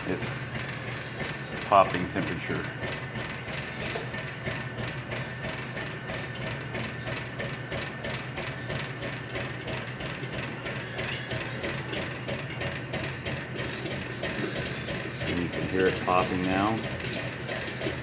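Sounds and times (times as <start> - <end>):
vending machine motor hum: 0.0 - 18.0.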